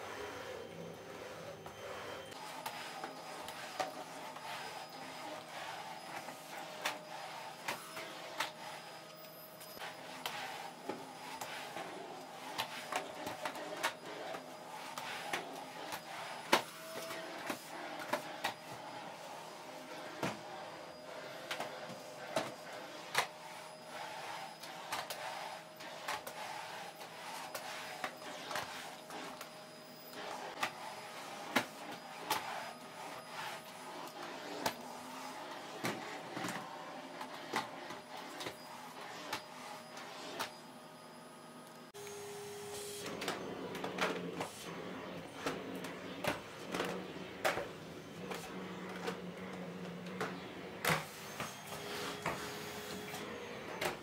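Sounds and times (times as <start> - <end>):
vacuum cleaner humming: 0.0 - 54.0.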